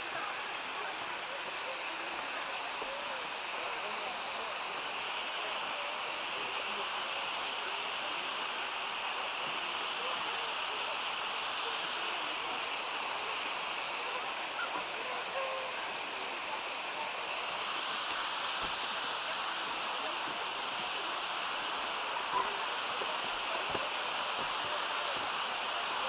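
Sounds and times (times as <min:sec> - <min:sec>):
creek rushing over rapids: 0:00.0 - 0:26.0.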